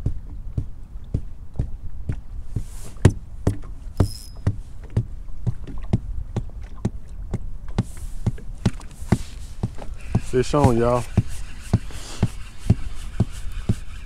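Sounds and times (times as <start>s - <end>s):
feet stomping on boat floor: 0.0s - 11.3s.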